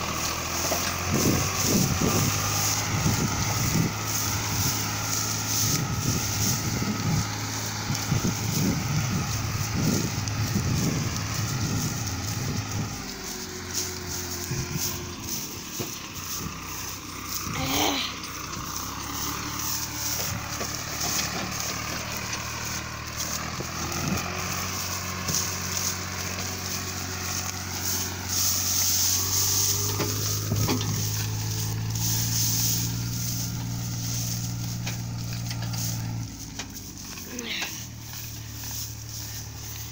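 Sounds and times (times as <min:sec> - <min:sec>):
tractor diesel engine running: 0:00.0 - 0:39.9
steady hiss: 0:01.2 - 0:39.9.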